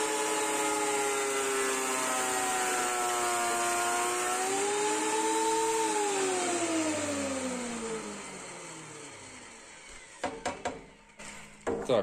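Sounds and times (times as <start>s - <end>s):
thickness planer whining: 0.0s - 12.0s.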